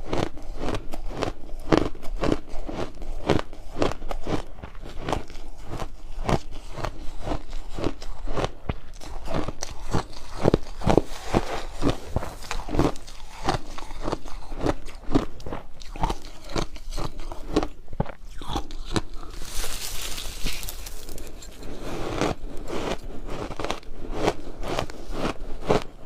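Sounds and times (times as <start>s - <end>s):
ice crunching while chewed: 0.0s - 26.0s.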